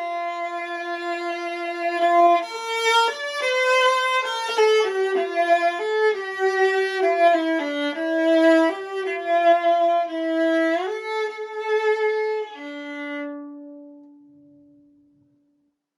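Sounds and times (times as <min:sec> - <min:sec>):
viola bowed melody: 0:00.0 - 0:14.9.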